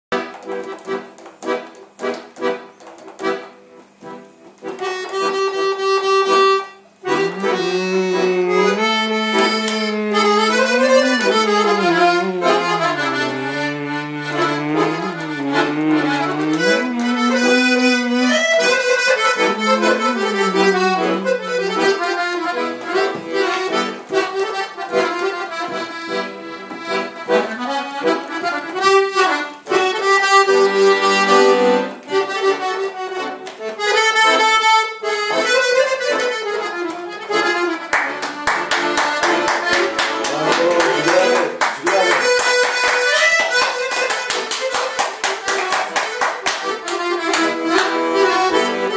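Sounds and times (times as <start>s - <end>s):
accordion playing dance tune: 0.1s - 48.9s.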